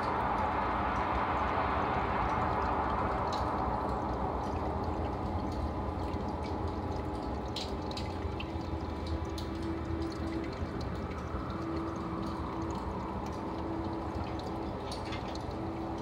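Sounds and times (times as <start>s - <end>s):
aquarium water bubbling: 0.0s - 16.0s
low hum: 0.0s - 16.0s
water drips and pops: 0.0s - 16.0s.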